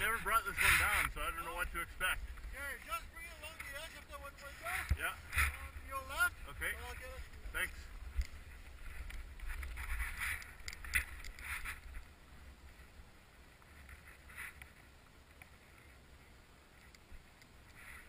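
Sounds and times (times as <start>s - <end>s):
wind rumbling on microphone: 0.0s - 15.0s
rustling or scraping noises: 0.0s - 16.3s, 17.6s - 18.0s.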